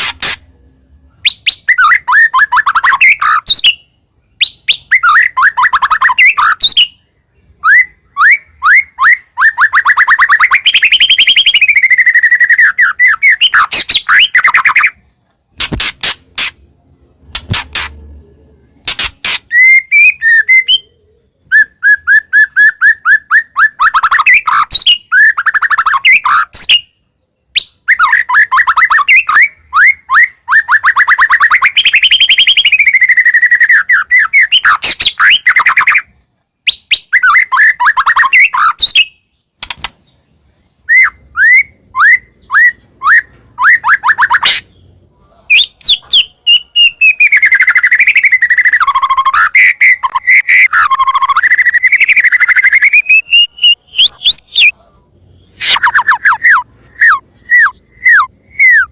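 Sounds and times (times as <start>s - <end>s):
bird singing whistled trills: 0.0s - 15.0s, 15.8s - 39.5s, 40.8s - 58.9s.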